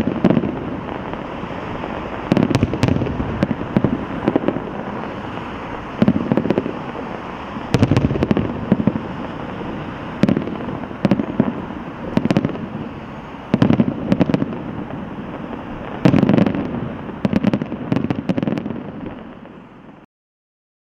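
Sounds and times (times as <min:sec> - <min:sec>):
fireworks booming bursts: 0:00.0 - 0:20.1
fireworks crackling: 0:00.0 - 0:20.1.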